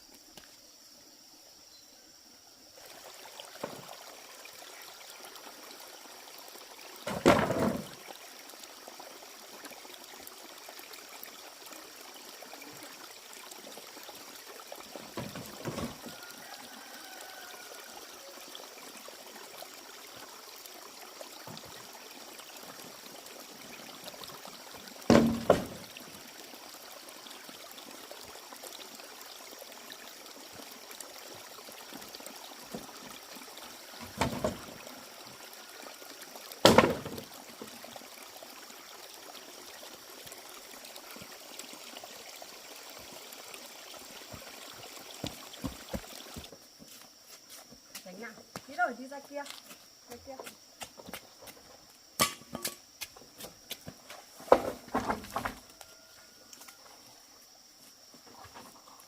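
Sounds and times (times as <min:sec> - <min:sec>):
running water trickling: 0:02.2 - 0:59.0.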